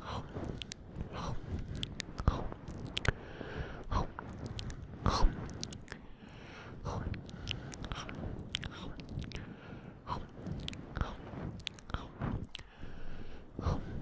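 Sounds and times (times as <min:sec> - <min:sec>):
sharp mouth clicks: 0:00.0 - 0:06.2, 0:06.8 - 0:12.8
wet mouth chewing and smacking: 0:00.2 - 0:09.6, 0:10.2 - 0:12.8.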